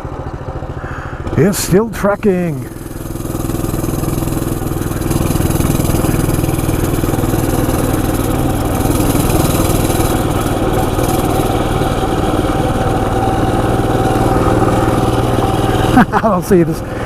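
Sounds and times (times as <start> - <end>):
mini bike engine running: 0.0 - 17.0.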